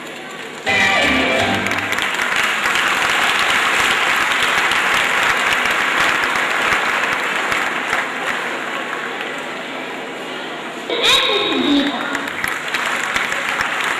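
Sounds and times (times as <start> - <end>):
audience clapping: 0.0 - 9.8, 11.8 - 13.9.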